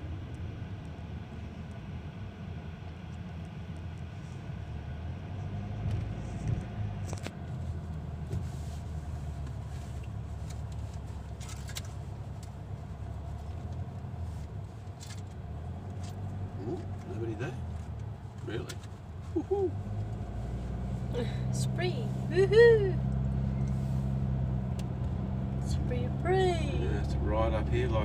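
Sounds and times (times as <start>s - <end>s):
engine and tyre rumble: 0.0s - 28.0s.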